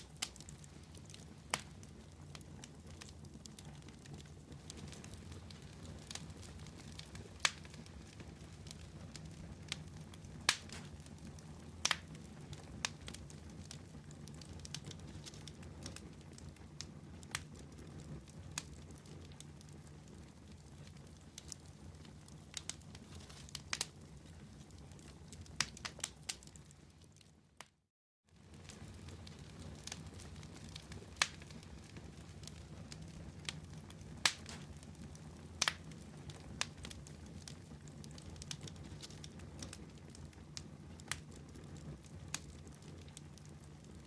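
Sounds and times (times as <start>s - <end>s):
low rumble of flames: 0.0s - 44.0s
wood crackling and popping: 0.0s - 44.0s.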